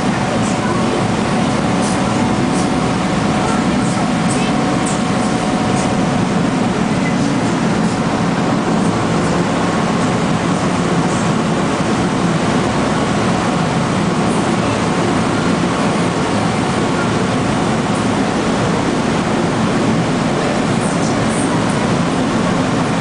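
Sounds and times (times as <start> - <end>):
boat engine droning: 0.0 - 23.0
water rushing along hull: 0.0 - 23.0.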